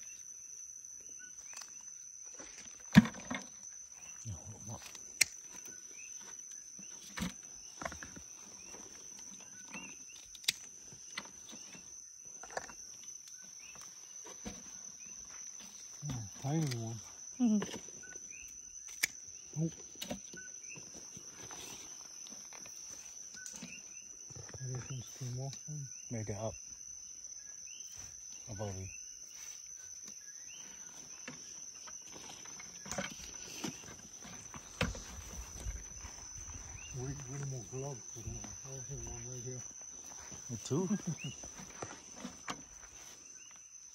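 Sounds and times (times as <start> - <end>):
crickets chirring: 0.0 - 43.9
night insects trilling: 0.0 - 43.9.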